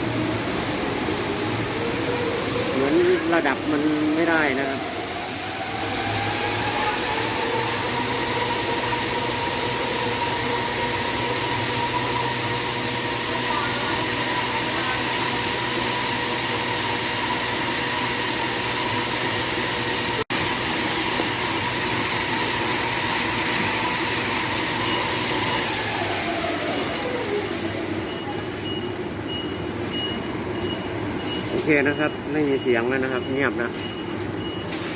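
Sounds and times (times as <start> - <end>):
air conditioner blower fan: 0.0 - 34.9.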